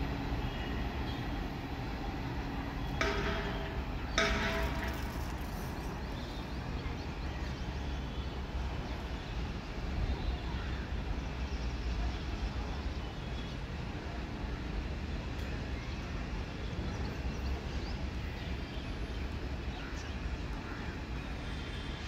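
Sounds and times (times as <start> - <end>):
train rumbling away: 0.0 - 21.2.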